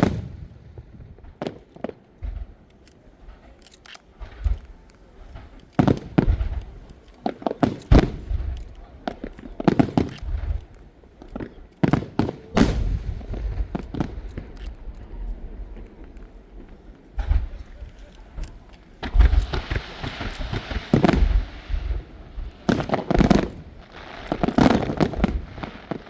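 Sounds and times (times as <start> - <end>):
firework shells bursting: 0.0 - 26.0.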